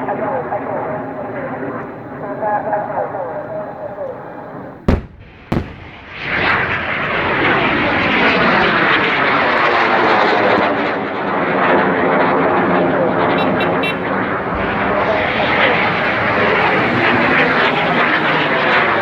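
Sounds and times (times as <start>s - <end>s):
jet engine roar overhead: 0.0s - 19.0s.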